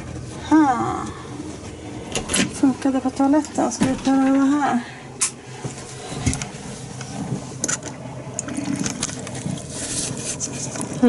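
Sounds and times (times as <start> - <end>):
water pump humming: 0.0 - 11.0.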